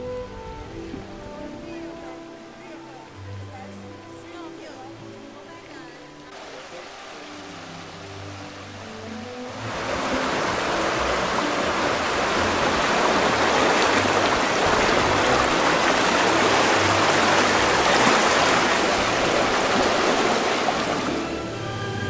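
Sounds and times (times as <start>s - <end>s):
creek rushing over stones: 1.0s - 22.0s.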